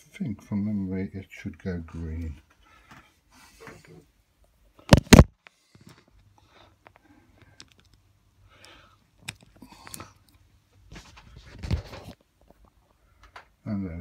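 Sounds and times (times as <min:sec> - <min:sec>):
faint clicks and rustling: 0:02.2 - 0:13.6.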